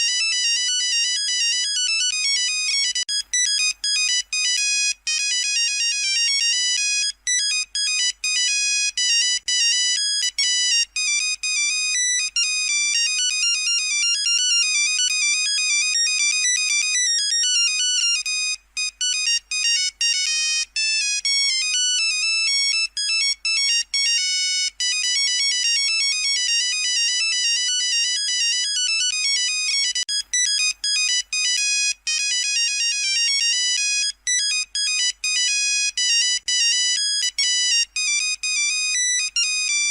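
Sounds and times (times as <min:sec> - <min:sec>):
buzzy beeping ringtone melody: 0:00.0 - 0:39.9.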